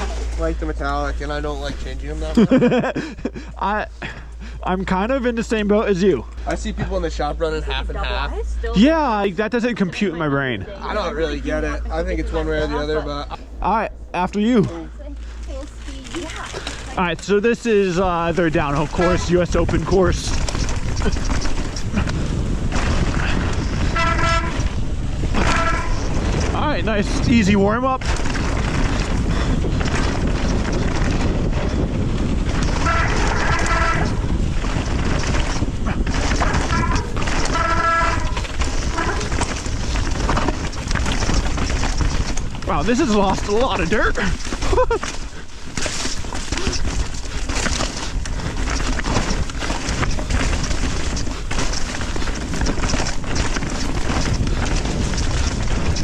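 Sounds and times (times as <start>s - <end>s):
bike tyres rolling on dirt: 0.0s - 56.0s
wind buffeting microphone: 0.0s - 56.0s.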